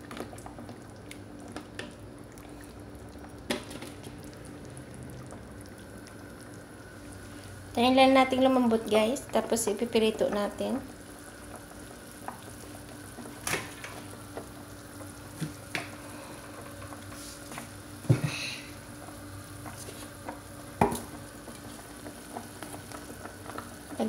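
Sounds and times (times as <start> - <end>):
pot simmering and bubbling: 0.0 - 24.0.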